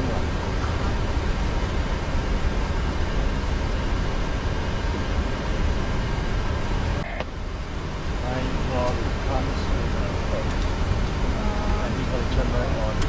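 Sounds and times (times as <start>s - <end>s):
aircraft cockpit rumbling and hissing: 0.0s - 13.0s.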